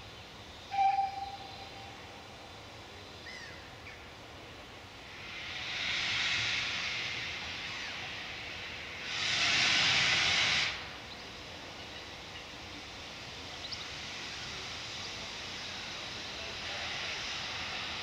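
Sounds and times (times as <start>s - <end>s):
loud steam hiss: 0.0s - 18.0s
low steady steam hiss: 0.0s - 18.0s.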